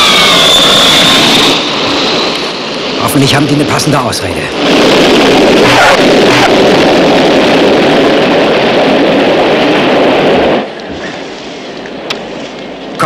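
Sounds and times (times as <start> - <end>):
jet airliner landing roar: 0.0 - 13.0.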